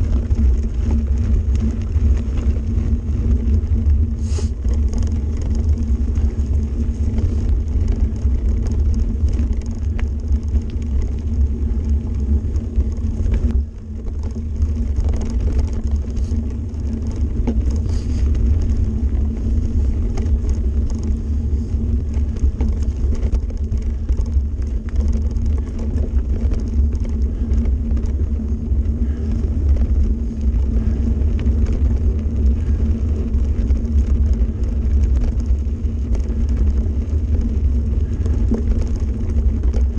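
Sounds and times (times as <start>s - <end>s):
stones and bike frame rattling: 0.0s - 39.9s
wind buffeting and tyre rumble: 0.0s - 39.9s.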